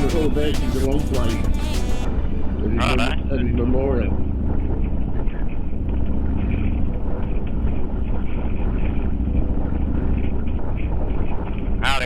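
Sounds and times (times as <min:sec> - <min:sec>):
motorcycle engine running: 0:02.1 - 0:12.0
wind and road noise: 0:02.1 - 0:12.0.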